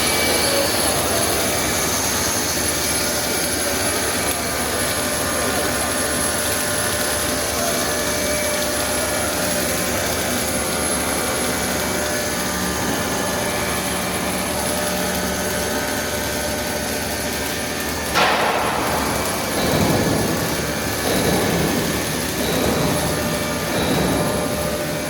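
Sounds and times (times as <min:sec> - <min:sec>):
high-pitched machine whine: 0:00.0 - 0:25.0
machinery drone and hiss: 0:00.0 - 0:25.0.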